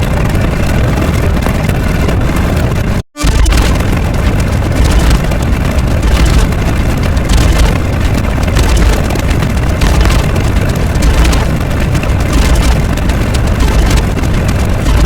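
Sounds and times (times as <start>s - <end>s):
loud low rumbling: 0.0s - 15.0s.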